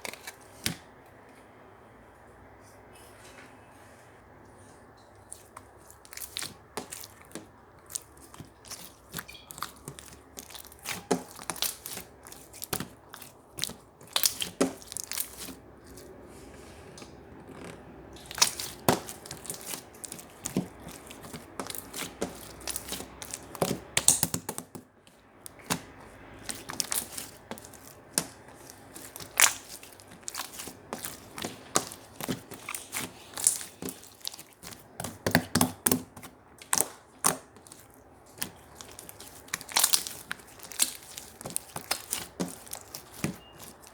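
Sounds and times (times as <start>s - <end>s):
slime squished by hand: 5.2s - 43.9s.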